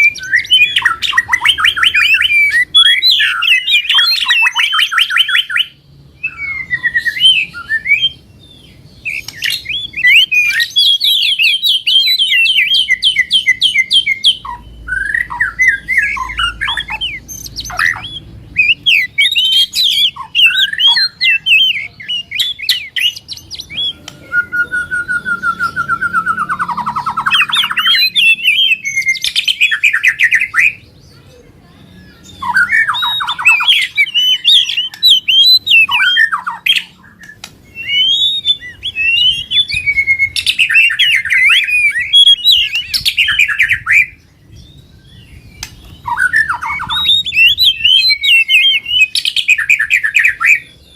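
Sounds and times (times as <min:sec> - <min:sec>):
songbirds chattering trills: 0:00.0 - 0:50.9.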